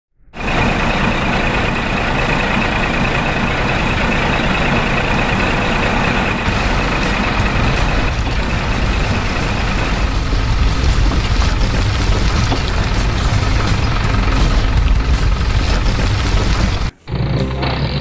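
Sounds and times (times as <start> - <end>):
truck engine running: 0.3 - 18.0.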